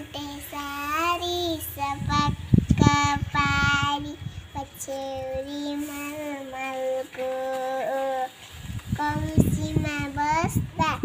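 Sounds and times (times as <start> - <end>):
girl singing: 0.0 - 11.0.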